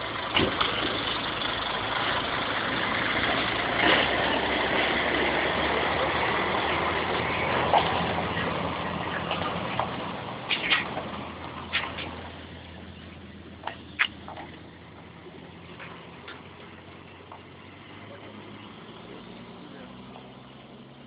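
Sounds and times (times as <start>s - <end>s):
truck diesel engine idling: 0.0s - 21.0s.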